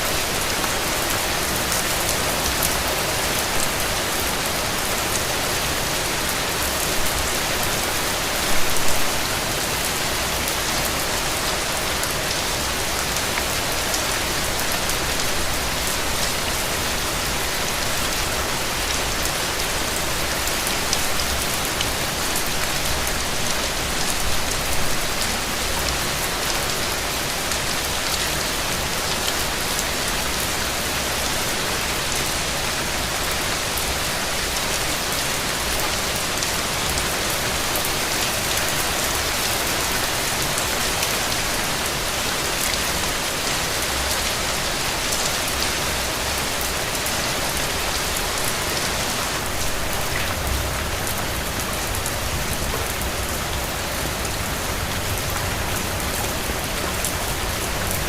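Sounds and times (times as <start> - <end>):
rain falling on a road: 0.0 - 58.0.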